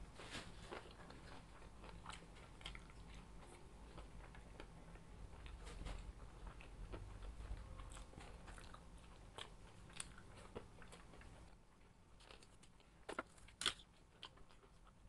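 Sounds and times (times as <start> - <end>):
person chewing crunchy food: 0.3 - 15.0.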